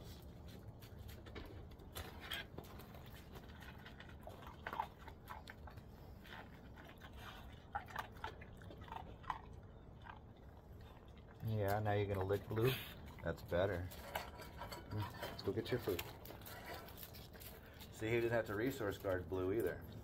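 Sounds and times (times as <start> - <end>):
dogs crunching and chewing: 0.0 - 20.0.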